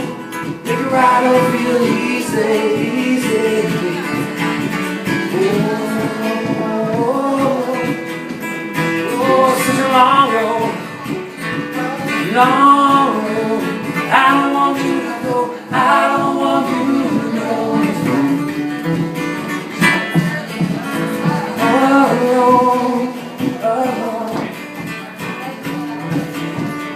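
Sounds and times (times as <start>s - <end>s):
strummed acoustic guitar: 0.0s - 26.9s.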